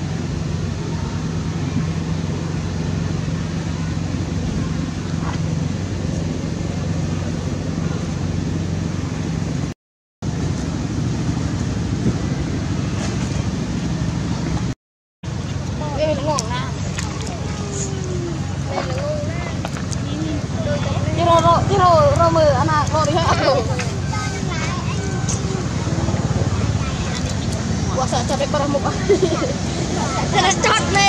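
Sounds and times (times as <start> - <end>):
low motor hum: 0.0 - 31.0.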